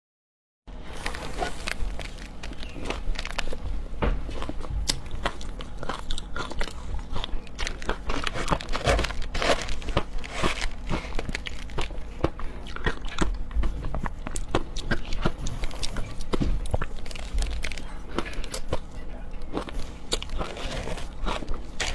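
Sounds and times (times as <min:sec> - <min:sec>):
ice being chewed: 0:00.9 - 0:21.9.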